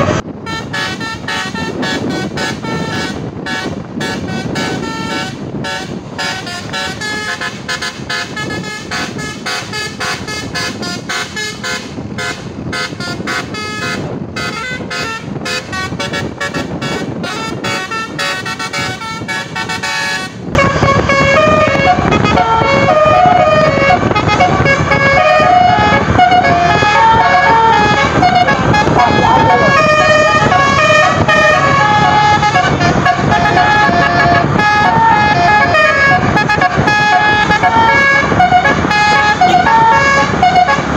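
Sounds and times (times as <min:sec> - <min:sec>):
musical bus horn tune: 0:00.0 - 0:40.9
horn playing slow melody: 0:00.5 - 0:40.9.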